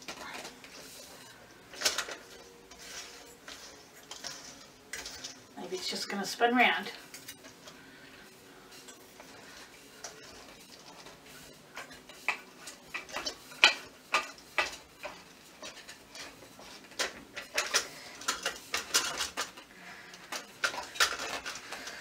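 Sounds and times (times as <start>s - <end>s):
metal parts clinking and knocking: 0.0s - 6.0s, 10.0s - 22.0s.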